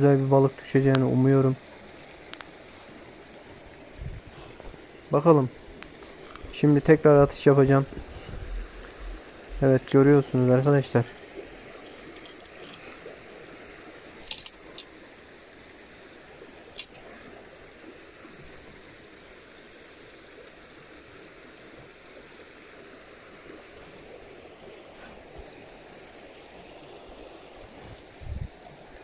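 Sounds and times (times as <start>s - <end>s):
creek water flowing: 0.0s - 29.0s.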